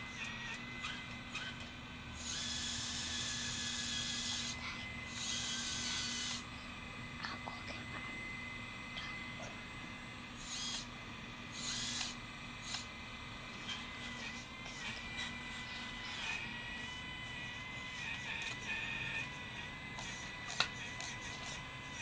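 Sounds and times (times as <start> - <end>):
hydraulic pump whine: 0.0 - 7.2, 8.0 - 22.0
hydraulic hissing whine: 2.1 - 20.4.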